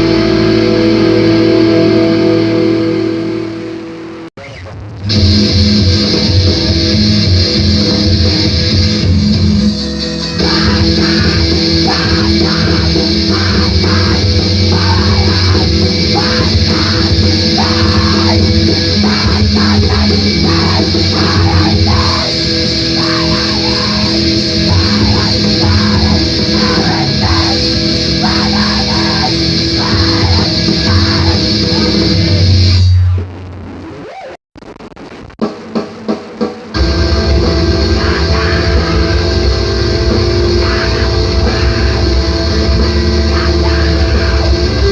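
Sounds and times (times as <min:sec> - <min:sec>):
loud heavy band music: 0:00.0 - 0:33.3, 0:35.4 - 0:44.9
drum kit playing hard: 0:00.0 - 0:33.4, 0:34.8 - 0:44.9
distorted electric guitars: 0:00.0 - 0:44.9.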